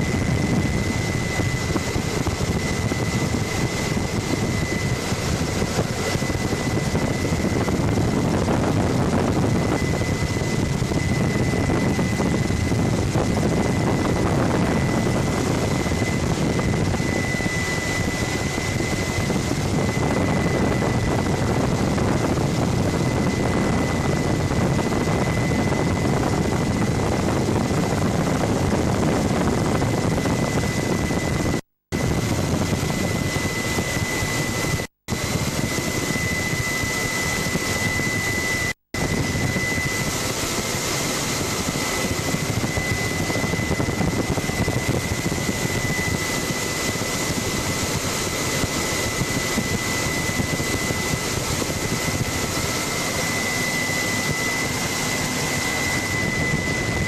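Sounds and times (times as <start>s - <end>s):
helicopter engine and rotor: 0.0s - 57.0s.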